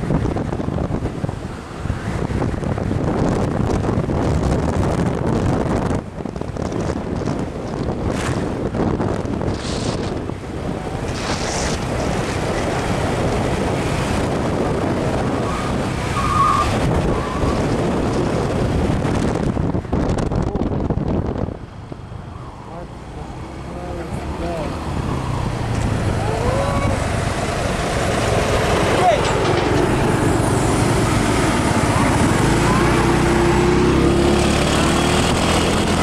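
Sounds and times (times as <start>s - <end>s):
motorcycle engine and road noise: 0.0s - 36.0s
wind buffeting microphone: 0.0s - 36.0s.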